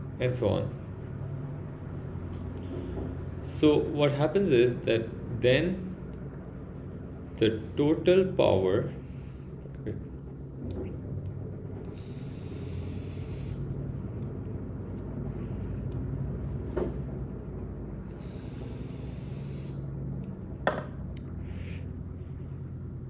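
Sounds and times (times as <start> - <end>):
low hum and rumble: 0.0 - 23.0.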